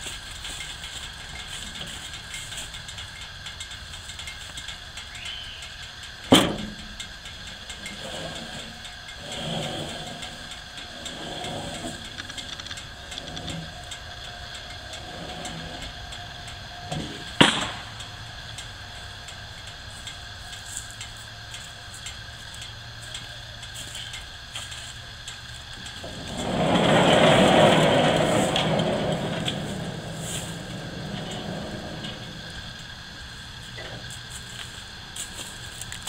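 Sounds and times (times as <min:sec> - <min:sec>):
bandsaw mill humming: 0:05.2 - 0:35.8.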